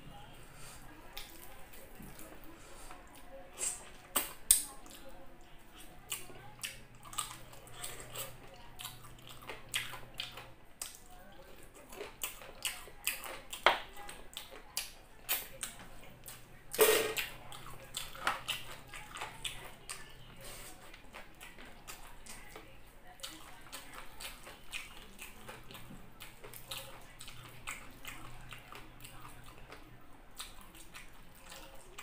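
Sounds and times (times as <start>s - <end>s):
wet chewing and lip-smacking: 1.1s - 2.4s, 3.0s - 32.0s.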